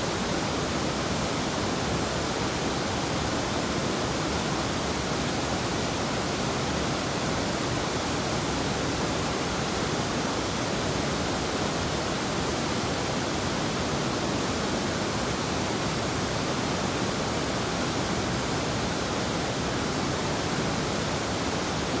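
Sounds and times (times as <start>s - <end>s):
river water rushing over rapids: 0.0s - 22.0s.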